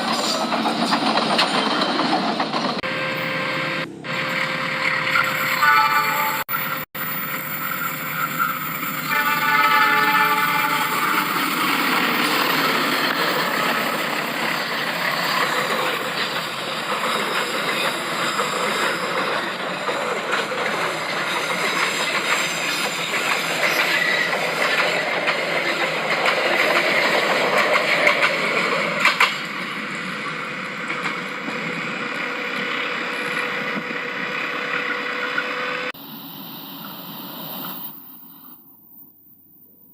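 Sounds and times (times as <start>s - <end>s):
train wheels rumbling and clattering: 0.0s - 2.9s, 3.8s - 36.0s.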